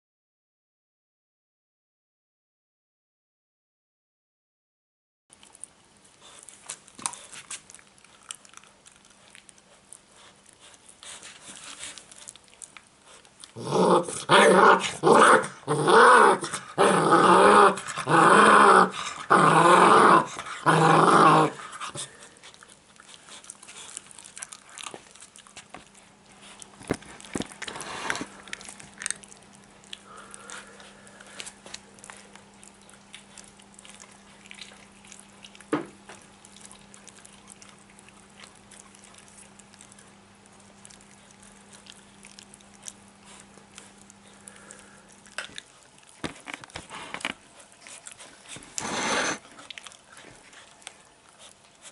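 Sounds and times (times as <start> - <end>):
low steady hum: 5.3 - 51.9
puppy chewing: 5.3 - 51.9
puppy growling: 7.0 - 51.9.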